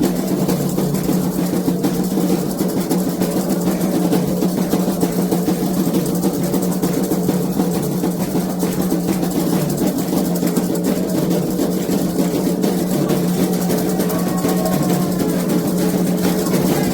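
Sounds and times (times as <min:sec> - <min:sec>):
hand drums playing rhythm: 0:00.0 - 0:16.9.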